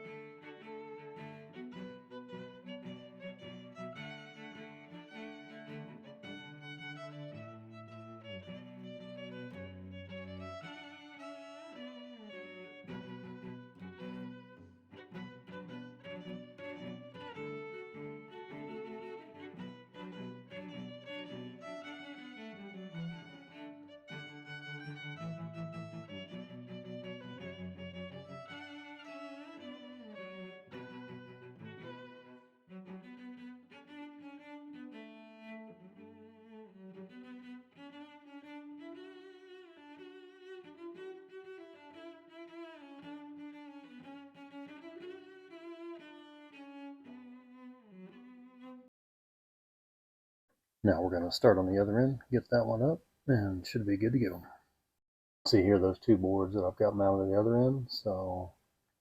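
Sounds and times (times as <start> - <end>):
bowed strings music: 0.0 - 48.9, 50.9 - 54.4, 55.5 - 58.4.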